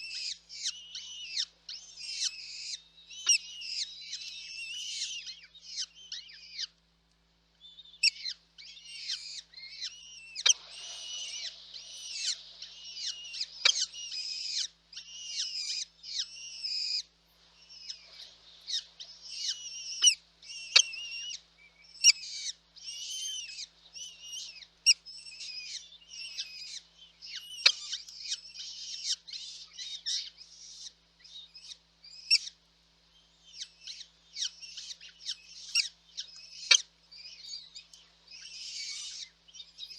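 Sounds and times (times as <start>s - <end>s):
nestling birds cheeping: 0.0s - 6.8s, 7.6s - 39.9s.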